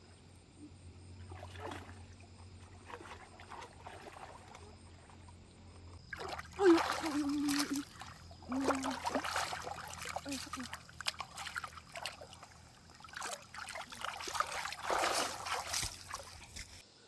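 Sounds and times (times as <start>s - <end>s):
water splashing in a stream: 1.1s - 16.8s.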